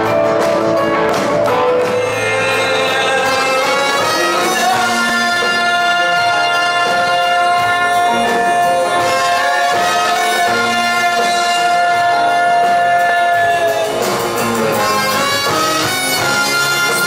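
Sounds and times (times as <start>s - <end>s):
guitar: 0.0s - 17.0s
upright bass: 0.0s - 17.0s
trumpet long note: 2.1s - 14.0s, 14.7s - 17.0s.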